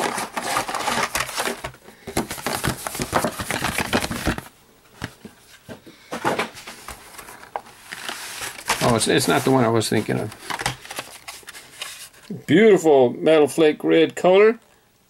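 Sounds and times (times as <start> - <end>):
plastic blister packs rustling: 0.0 - 12.3.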